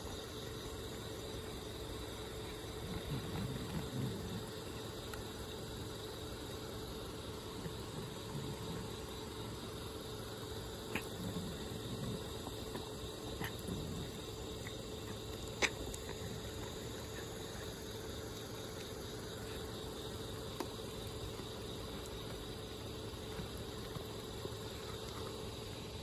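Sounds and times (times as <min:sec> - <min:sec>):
background hiss and hum: 0:00.0 - 0:26.0.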